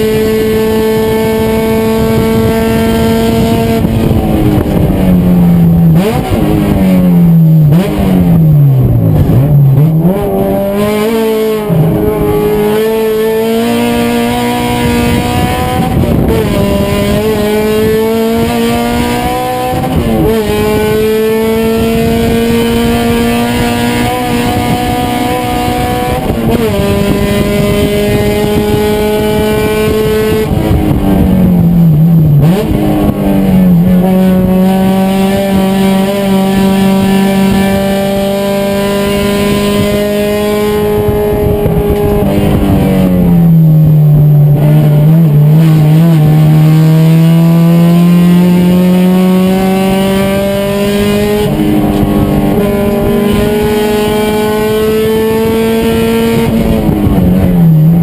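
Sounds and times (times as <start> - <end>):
racing car engine shifting gears: 0.0 - 58.0.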